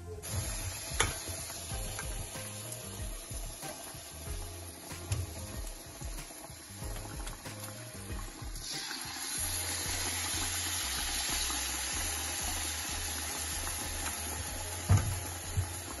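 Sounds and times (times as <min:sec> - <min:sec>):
fritters sizzling in hot oil: 0:00.2 - 0:16.0.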